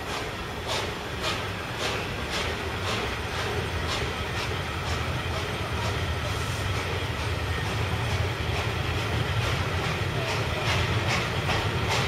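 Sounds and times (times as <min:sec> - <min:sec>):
steam locomotive exhaust beats: 0:00.0 - 0:12.0
train rumble: 0:00.0 - 0:12.0.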